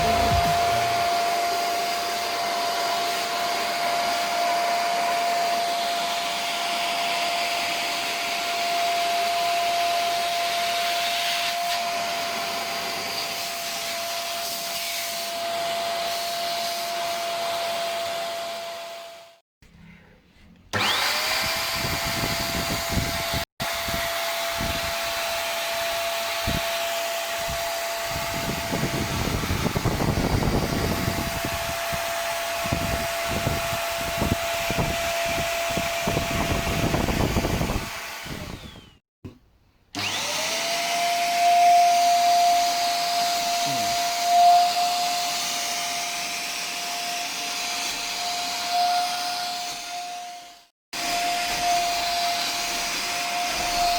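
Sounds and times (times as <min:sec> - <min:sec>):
vacuum cleaner motor: 0:00.0 - 0:19.4, 0:20.7 - 0:39.0, 0:40.0 - 0:53.9.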